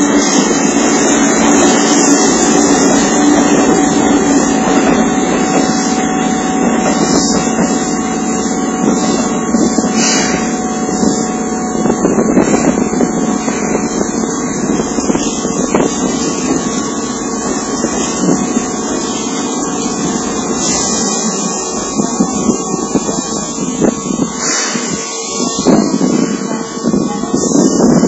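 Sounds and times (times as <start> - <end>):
train equipment humming: 0.0 - 28.0.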